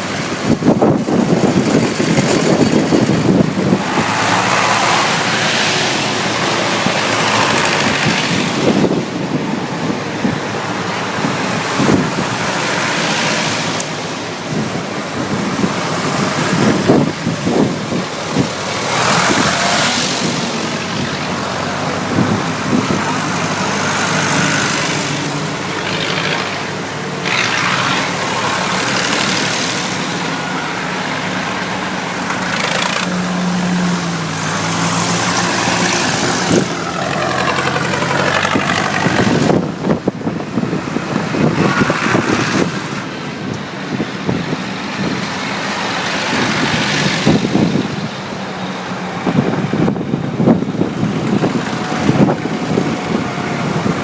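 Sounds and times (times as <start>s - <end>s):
broad rushing noise: 0.0s - 54.0s
tractor engines running: 0.0s - 54.0s.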